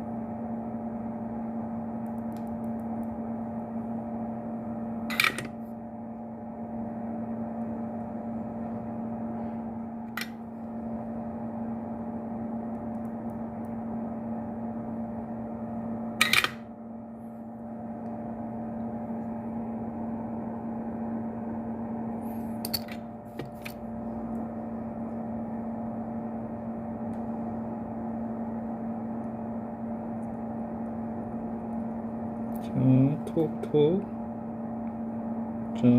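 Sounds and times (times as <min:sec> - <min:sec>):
low mechanical hum: 0:00.0 - 0:35.9.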